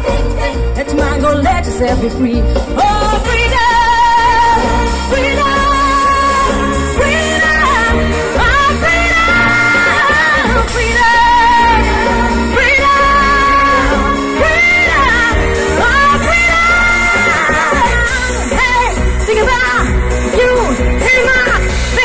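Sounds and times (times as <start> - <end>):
backing track with heavy bass: 0.0 - 22.0
woman singing pop into microphone: 0.0 - 22.0.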